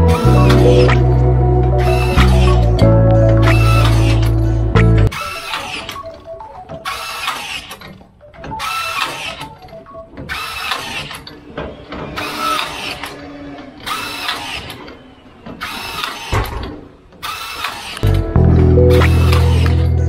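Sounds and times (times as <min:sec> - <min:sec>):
rebar tying tool motor whir: 0:00.0 - 0:18.2, 0:18.9 - 0:20.0.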